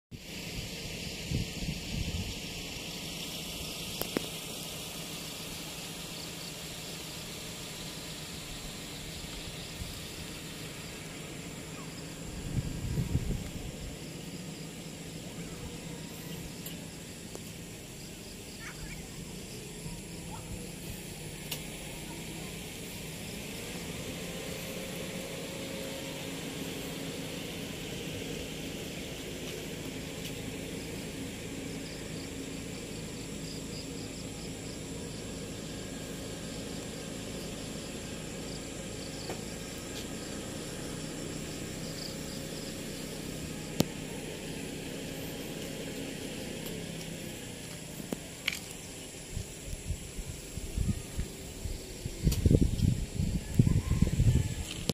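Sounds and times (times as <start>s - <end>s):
distant motor drone: 0.1s - 54.9s
insects chirring: 0.2s - 54.9s.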